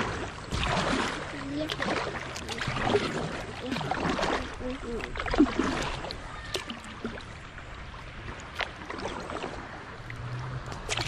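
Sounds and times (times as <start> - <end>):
water lapping against kayak hull: 0.0 - 11.0.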